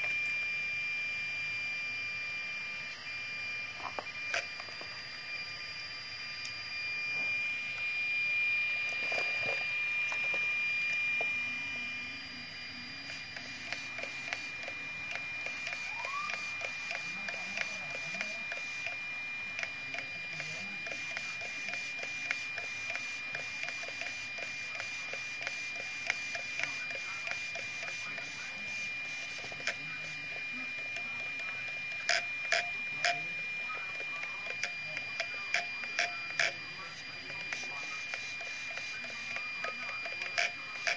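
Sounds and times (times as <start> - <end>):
servo high-pitched whine: 0.0 - 40.9.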